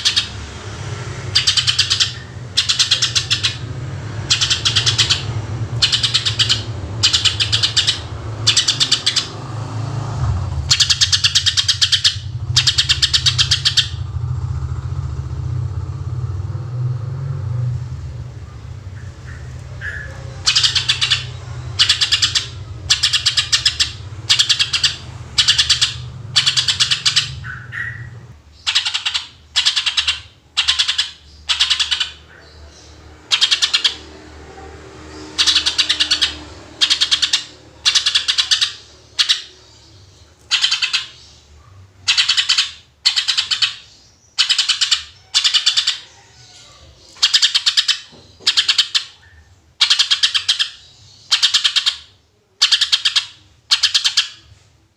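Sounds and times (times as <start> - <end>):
bird singing fast trilled bursts: 0.0 - 9.9, 10.5 - 15.0, 18.8 - 46.2, 47.1 - 54.5.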